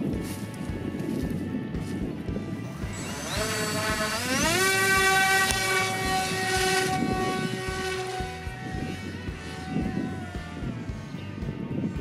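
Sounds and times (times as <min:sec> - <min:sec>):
electric propeller motor whine: 0:00.0 - 0:12.0.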